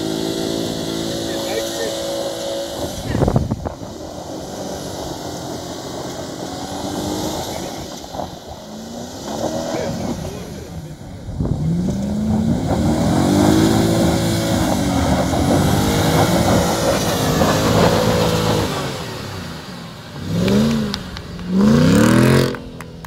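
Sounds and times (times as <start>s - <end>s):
suv engine revving hard: 0.0s - 22.8s.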